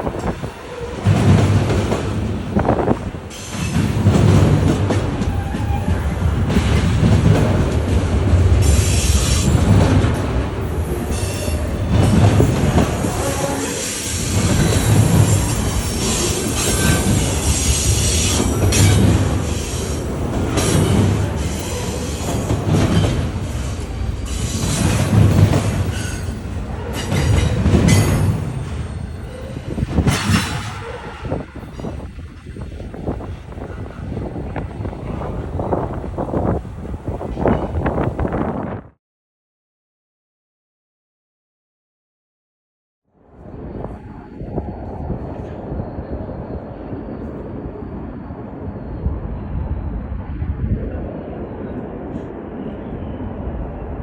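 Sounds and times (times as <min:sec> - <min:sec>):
train rumbling past: 0:00.0 - 0:39.0, 0:43.2 - 0:54.0.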